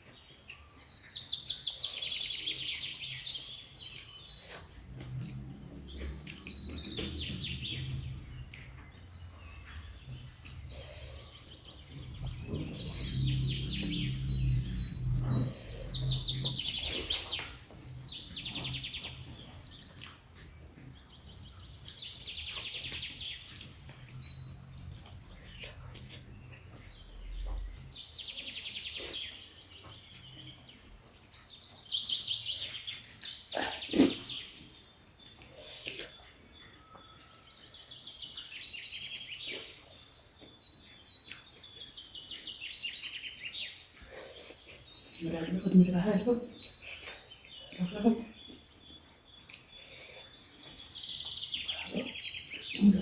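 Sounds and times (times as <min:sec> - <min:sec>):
small birds singing: 0:00.0 - 0:53.0.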